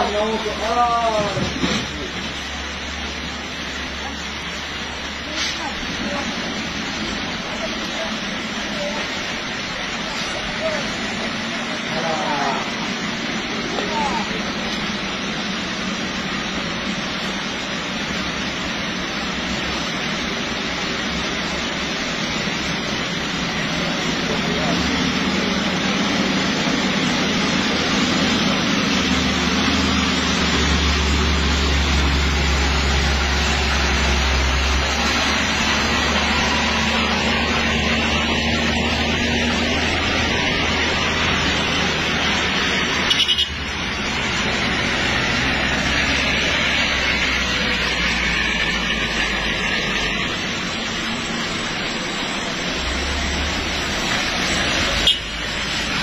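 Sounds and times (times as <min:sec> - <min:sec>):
truck engine rumbling past: 0:00.0 - 0:56.0
tyres hissing on wet road: 0:00.0 - 0:56.0.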